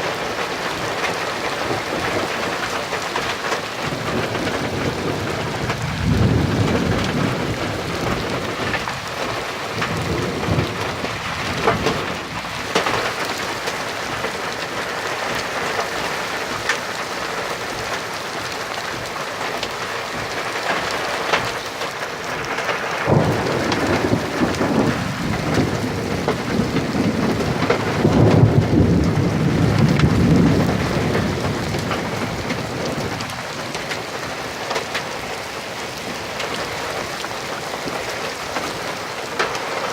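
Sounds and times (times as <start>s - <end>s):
thunder rumbling: 0.0s - 21.6s, 22.3s - 39.9s
steady rain falling: 0.0s - 39.9s.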